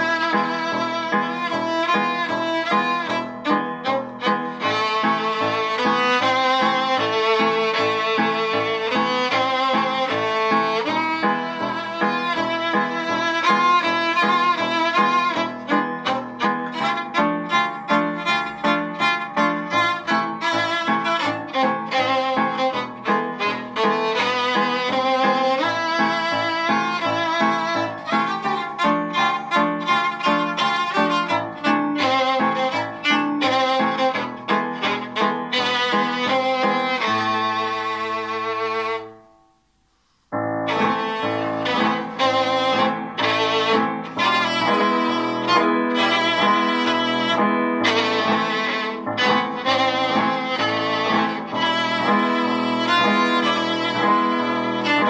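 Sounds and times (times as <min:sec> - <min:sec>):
solo violin melody with vibrato: 0:00.0 - 0:39.3, 0:40.4 - 0:55.0
piano accompaniment: 0:00.0 - 0:55.0.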